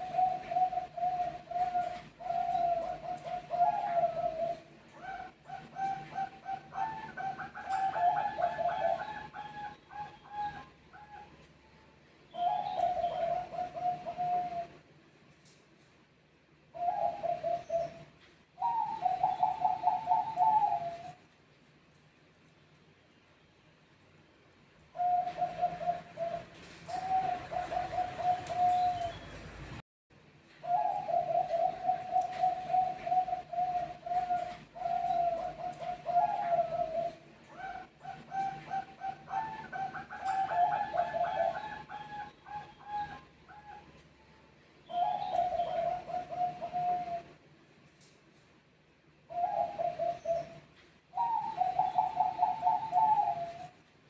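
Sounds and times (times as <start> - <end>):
doves cooing: 0.0 - 11.5, 12.3 - 14.9, 16.7 - 21.3, 24.8 - 29.8, 30.6 - 44.0, 44.8 - 47.5, 49.2 - 53.9.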